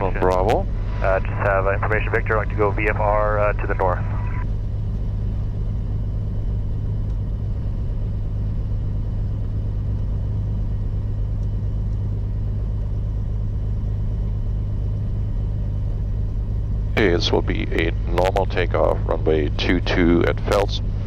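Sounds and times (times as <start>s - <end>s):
piston aircraft engine droning: 0.0s - 21.0s.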